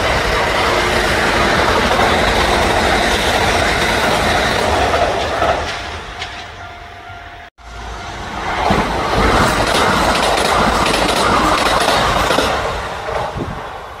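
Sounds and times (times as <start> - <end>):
train wheels rumbling and clacking: 0.0 - 6.8, 7.8 - 14.0.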